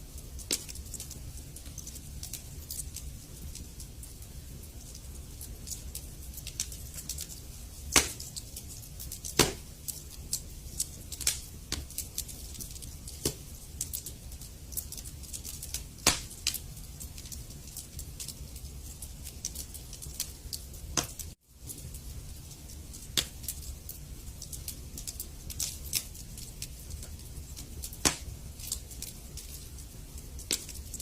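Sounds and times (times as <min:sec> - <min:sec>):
logs crackling with sharp pops: 0:00.3 - 0:31.0.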